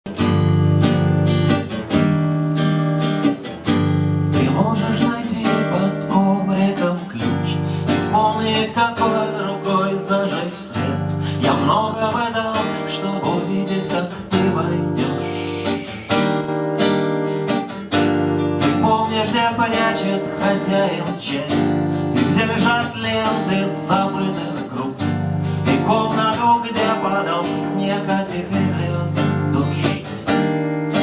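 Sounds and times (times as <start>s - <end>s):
acoustic guitar strumming chords: 0.1s - 31.0s
higher guitar melody line: 0.1s - 31.0s.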